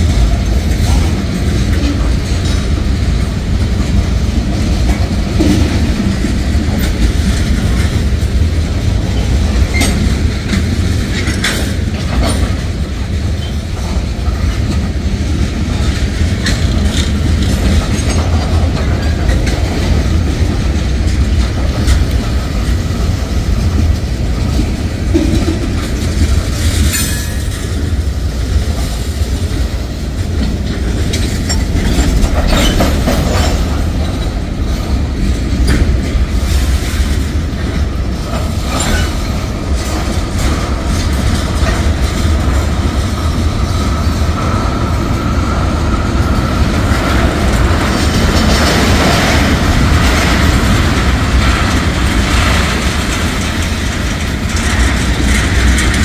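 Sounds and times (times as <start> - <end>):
freight cars rolling past: 0.0 - 56.0
wheels clacking over rail joints: 0.0 - 56.0.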